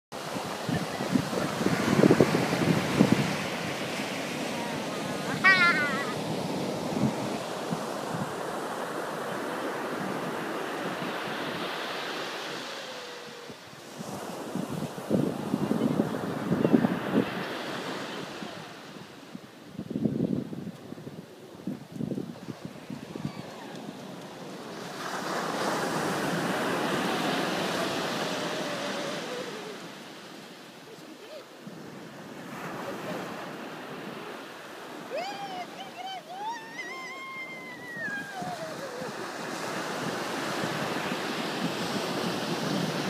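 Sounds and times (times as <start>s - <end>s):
ocean waves breaking on beach: 0.1s - 43.0s
wind on microphone: 0.2s - 30.6s, 34.9s - 43.0s.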